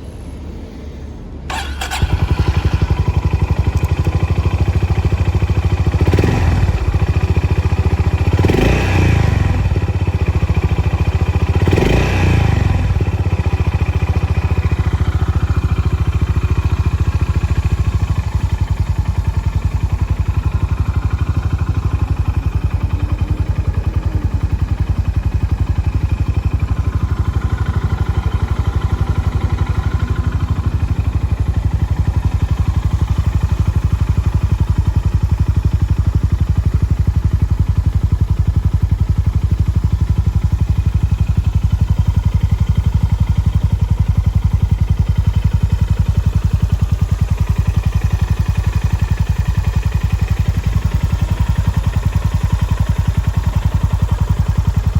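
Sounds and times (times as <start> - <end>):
motorcycle engine idling: 1.5 - 54.9.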